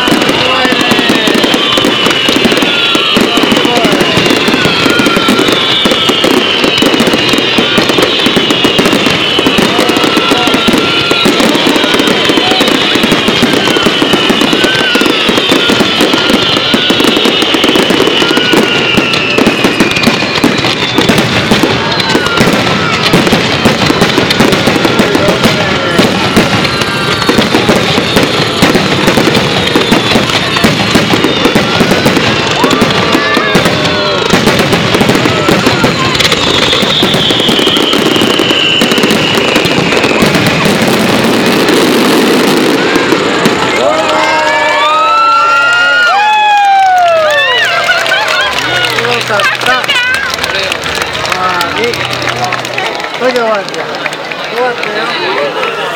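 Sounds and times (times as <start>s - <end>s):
fireworks crackling: 0.0s - 55.9s
fireworks whistling: 0.0s - 55.9s.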